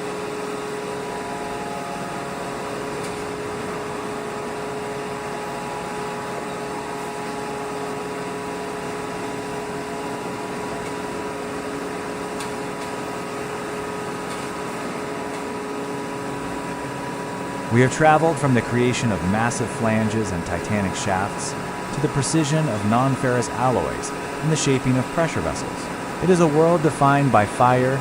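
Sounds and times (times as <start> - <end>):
heavy machinery humming: 0.0 - 28.0.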